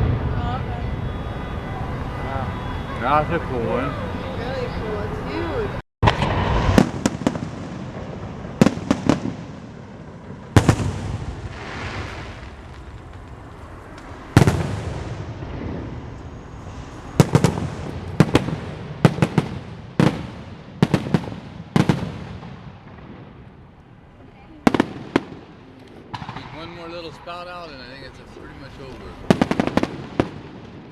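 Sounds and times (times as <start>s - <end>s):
fireworks bangs: 0.0s - 4.2s, 5.6s - 30.9s
fireworks crackles: 6.0s - 30.9s.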